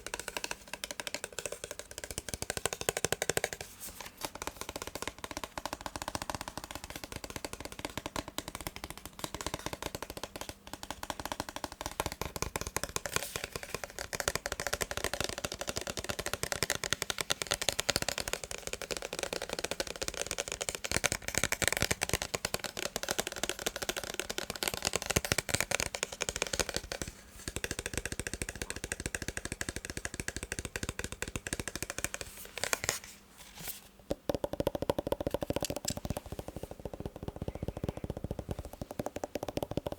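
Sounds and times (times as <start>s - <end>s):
tapping and clicking on plastic: 0.0s - 33.0s, 34.1s - 39.9s.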